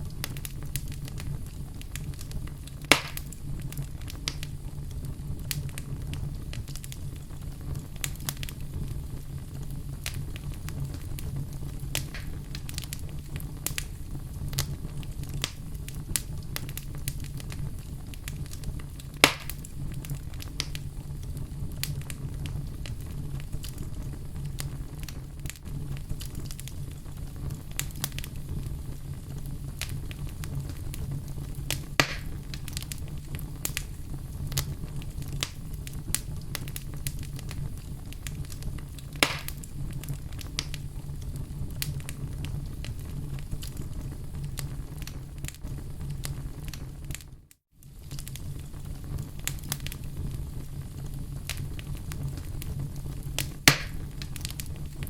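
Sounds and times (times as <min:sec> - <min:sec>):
log fire crackling: 0:00.0 - 0:55.0
loud fire pops: 0:00.0 - 0:55.0
low fire rumble: 0:00.0 - 0:55.0.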